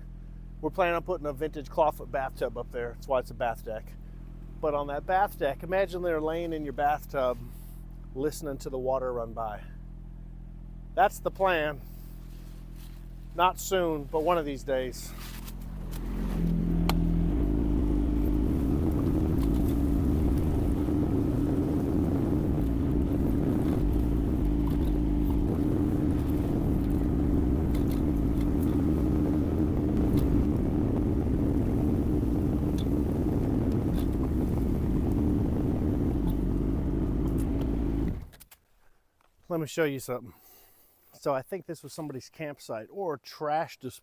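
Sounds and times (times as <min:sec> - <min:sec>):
diesel engine running: 0:00.0 - 0:38.4.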